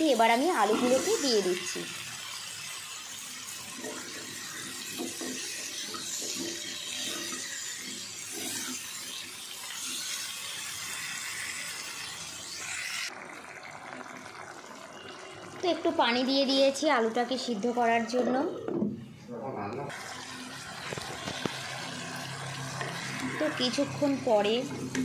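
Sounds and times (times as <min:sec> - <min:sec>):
potatoes sizzling in oil: 0:00.0 - 0:18.2, 0:19.9 - 0:25.0.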